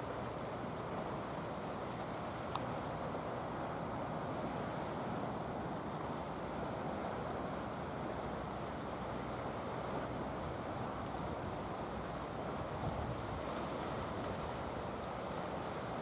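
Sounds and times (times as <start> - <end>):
sea surf on rocks: 0.0 - 16.0
wind: 0.0 - 16.0.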